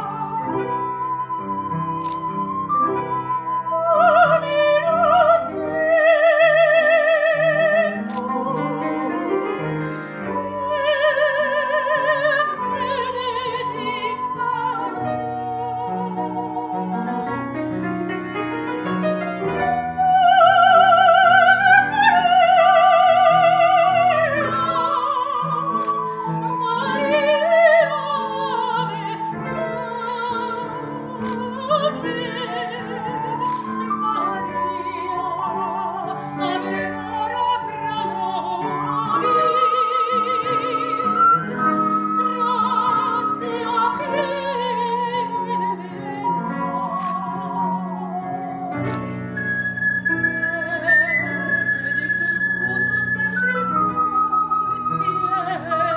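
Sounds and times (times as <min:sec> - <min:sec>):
ocarina melody: 0:00.0 - 0:55.9
woman singing operatically: 0:03.7 - 0:09.4, 0:10.3 - 0:17.3, 0:19.6 - 0:48.9, 0:50.4 - 0:55.9.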